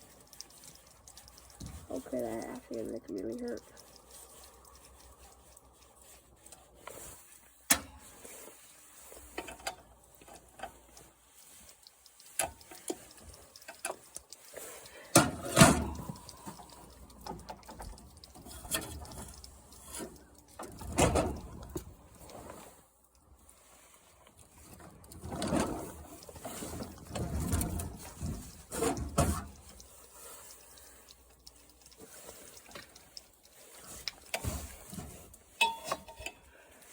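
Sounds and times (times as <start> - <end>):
metallic clicks and clanks of tools: 0.0 - 36.9.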